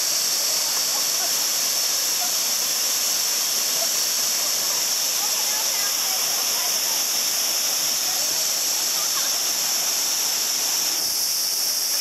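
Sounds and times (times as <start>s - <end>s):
waterfall rushing: 0.0s - 12.0s
faint voices of swimmers: 0.2s - 11.0s.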